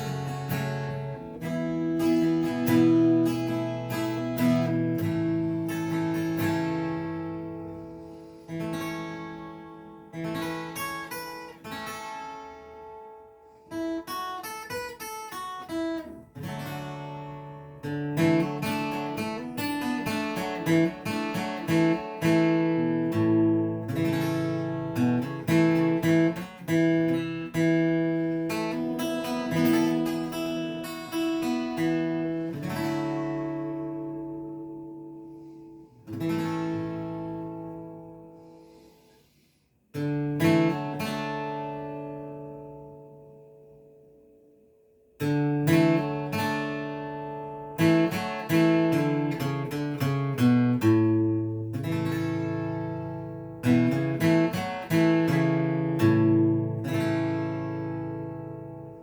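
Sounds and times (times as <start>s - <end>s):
acoustic guitar chords: 0.0s - 59.0s.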